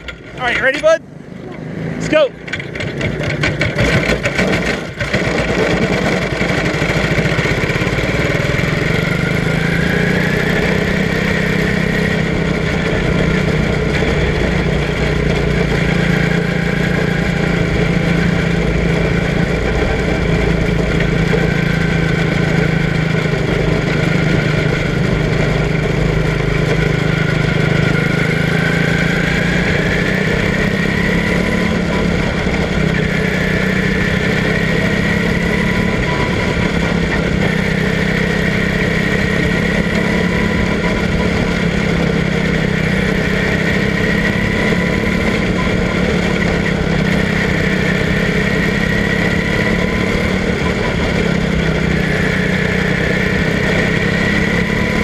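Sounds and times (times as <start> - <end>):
small race car engine running: 0.0 - 55.0.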